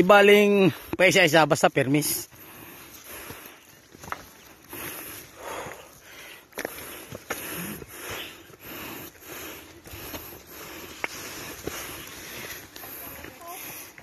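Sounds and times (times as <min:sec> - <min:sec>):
footsteps on trail: 0:00.1 - 0:14.0
heavy rhythmic breathing: 0:00.4 - 0:01.1, 0:02.0 - 0:14.0.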